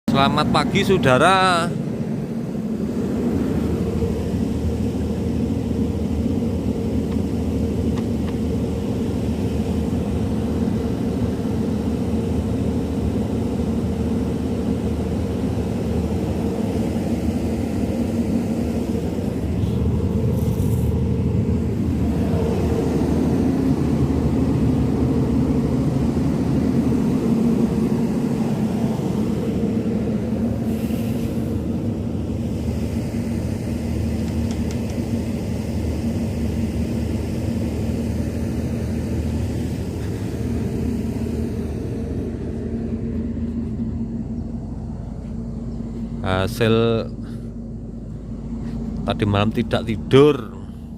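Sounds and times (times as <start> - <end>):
constant hum: 0.0 - 50.9
low rumble: 0.1 - 50.9.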